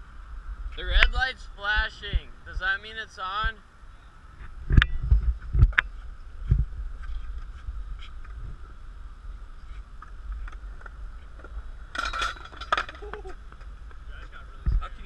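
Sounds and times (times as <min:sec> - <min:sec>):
low wind rumble on microphone: 0:00.0 - 0:02.6, 0:03.4 - 0:15.0.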